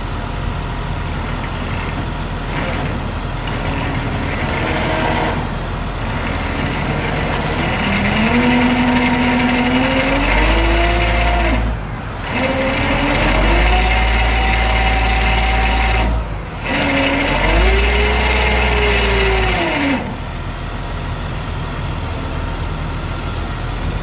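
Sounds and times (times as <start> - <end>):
truck engine under hydraulic load: 0.0 - 24.0.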